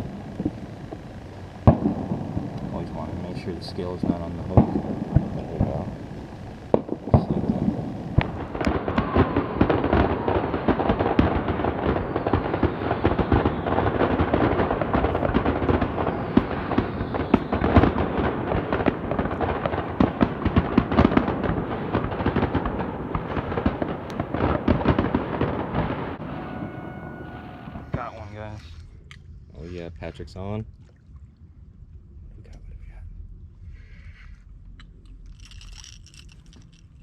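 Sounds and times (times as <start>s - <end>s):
fireworks crackling and popping: 0.0s - 28.6s, 34.8s - 37.0s.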